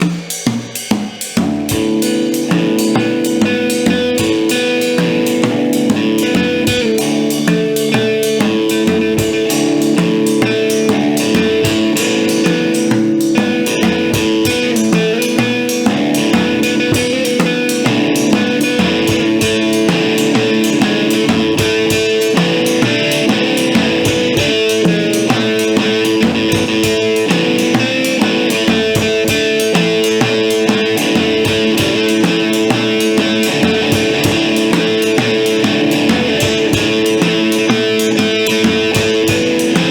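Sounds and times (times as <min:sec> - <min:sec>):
drum kit busy pattern: 0:00.0 - 0:39.9
rock band playing live: 0:00.0 - 0:39.9
guitar ringing chords: 0:01.5 - 0:39.9.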